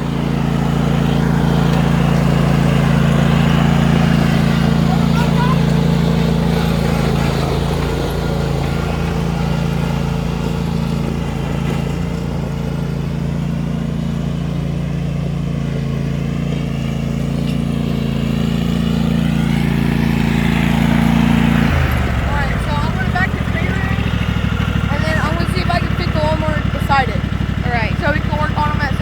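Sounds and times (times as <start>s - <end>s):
vehicle engine running steadily: 0.0s - 29.0s.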